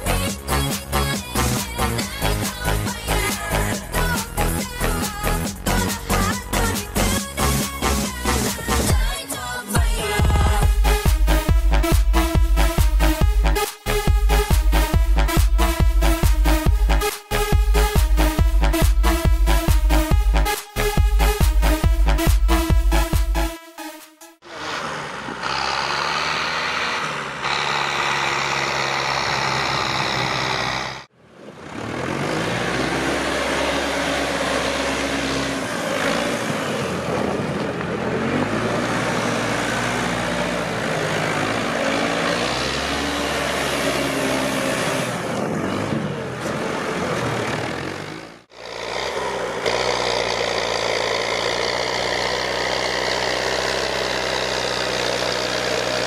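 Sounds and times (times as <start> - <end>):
tractor diesel engine under load: 0.0 - 23.1, 24.4 - 56.0.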